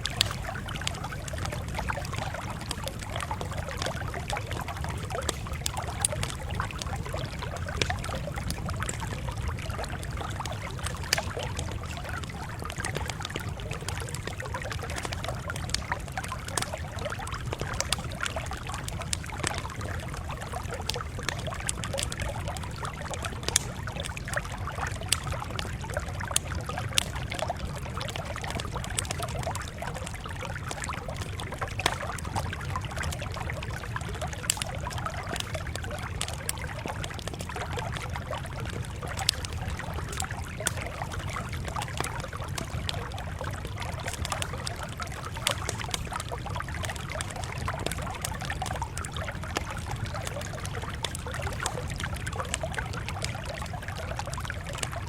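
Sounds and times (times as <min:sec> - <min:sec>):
campfire crackling and popping: 0:00.0 - 0:55.0
low rumble of fire: 0:00.0 - 0:55.0.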